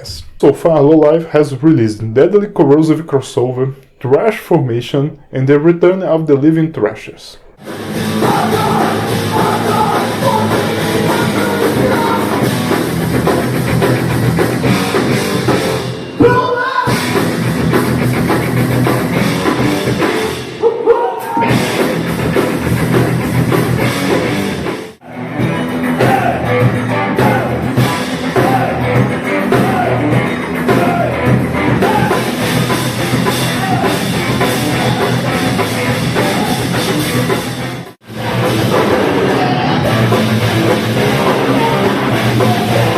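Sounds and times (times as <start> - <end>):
distorted guitars: 0.0 - 20.6, 21.3 - 42.9
fast loud drum kit: 7.6 - 20.6, 21.4 - 42.9.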